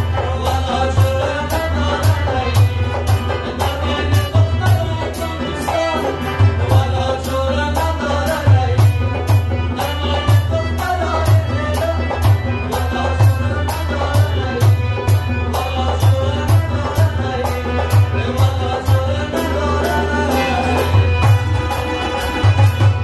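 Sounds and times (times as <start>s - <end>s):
hand drums beating: 0.0s - 23.0s
harmonium chords: 0.0s - 23.0s.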